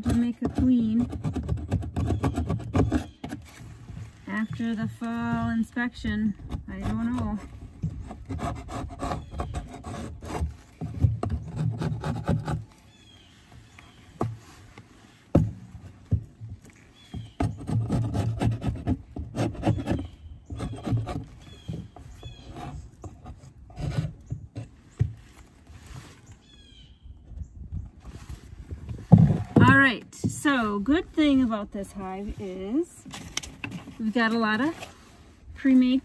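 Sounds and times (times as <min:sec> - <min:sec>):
metal tool scraping wood: 0:00.0 - 0:26.7, 0:28.8 - 0:31.5.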